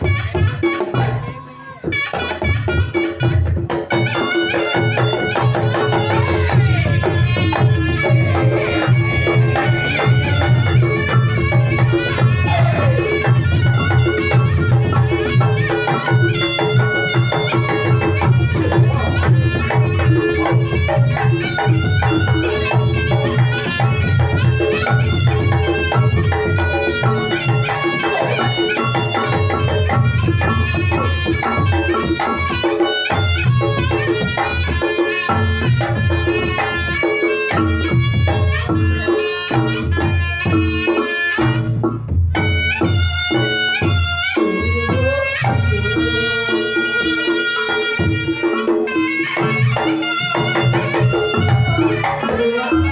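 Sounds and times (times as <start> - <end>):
drums beating busy pattern: 0.0 - 52.9
reed pipe melody: 0.0 - 52.9.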